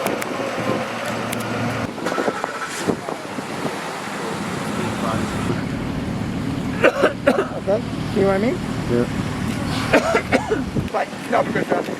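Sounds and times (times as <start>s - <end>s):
cars passing: 0.0s - 11.6s
steady traffic hum: 0.0s - 11.9s.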